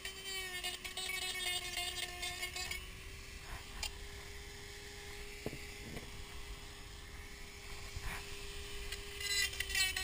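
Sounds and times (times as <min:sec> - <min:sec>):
rotary tool running: 0:00.0 - 0:10.0.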